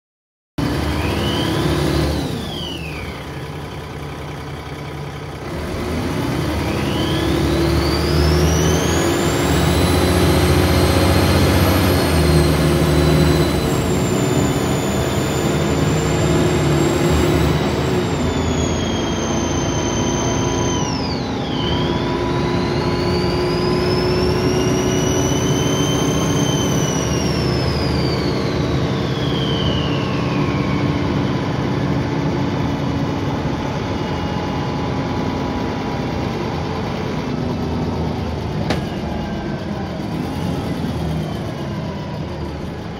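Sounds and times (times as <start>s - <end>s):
bus diesel engine under load: 0.6s - 42.9s
turbo whine: 0.6s - 42.9s.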